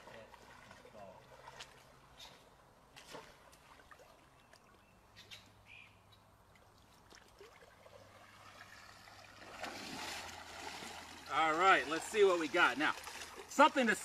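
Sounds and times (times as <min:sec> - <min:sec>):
pond water trickling and sloshing: 0:00.0 - 0:14.0.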